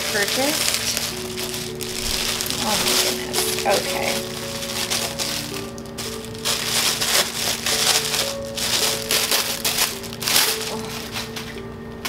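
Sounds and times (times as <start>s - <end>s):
parcel packaging rustling: 0.0s - 12.0s
soft background music: 0.0s - 12.0s.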